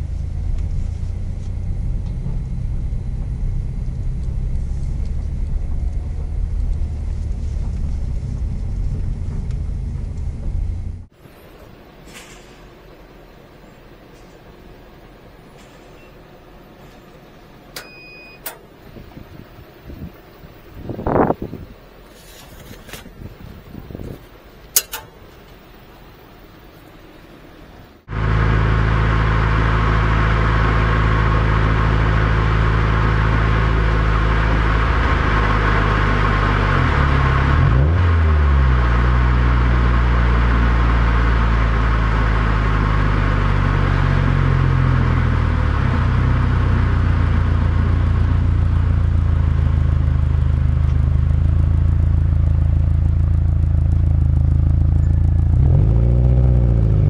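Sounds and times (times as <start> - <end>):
car engine and exhaust: 0.0 - 57.0
road noise: 0.0 - 57.0.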